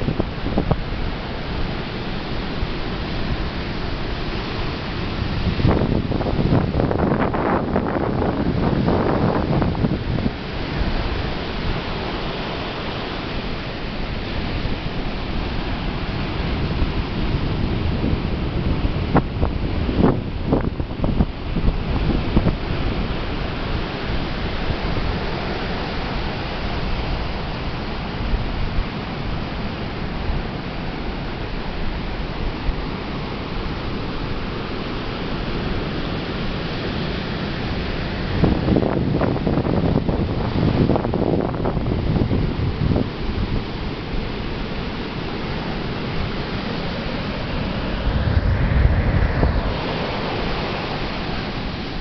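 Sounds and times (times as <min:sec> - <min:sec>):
ocean waves on a beach: 0:00.0 - 0:52.0
wind buffeting microphone: 0:00.0 - 0:52.0.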